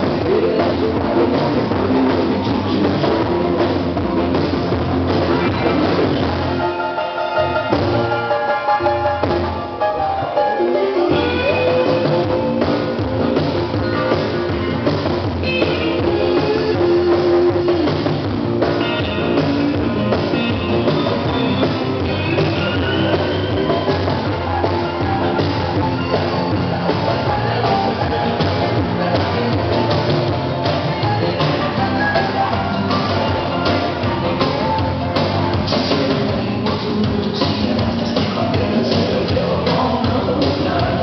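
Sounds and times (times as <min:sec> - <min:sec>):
steady drum beat: 0:00.0 - 0:06.7, 0:11.1 - 0:41.0
guitar: 0:00.0 - 0:41.0
upbeat line-dance music: 0:00.0 - 0:41.0.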